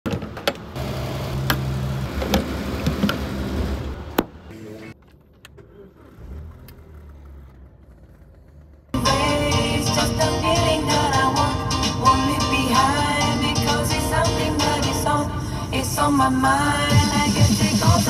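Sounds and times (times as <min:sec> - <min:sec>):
low engine rumble: 0:00.6 - 0:18.0.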